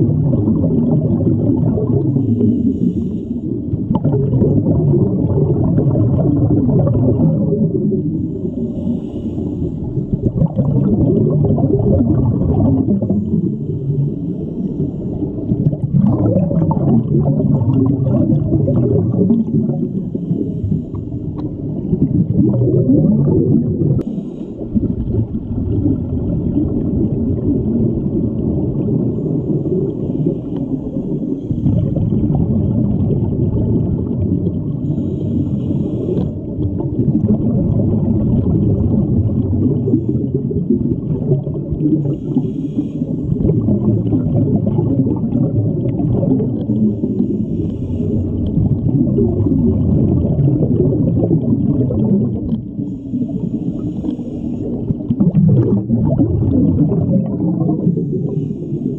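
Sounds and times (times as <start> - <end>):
muffled underwater rumble: 0.0 - 58.9.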